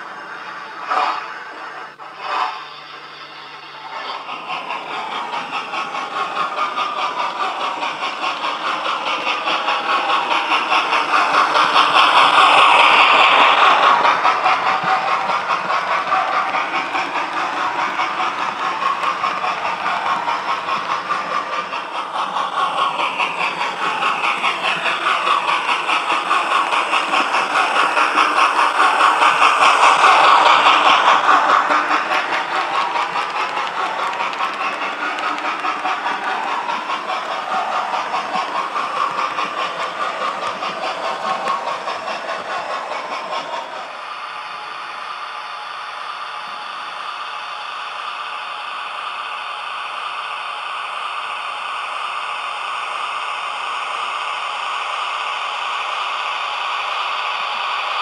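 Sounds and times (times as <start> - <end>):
diesel locomotive engine chugging: 0.0 - 58.0.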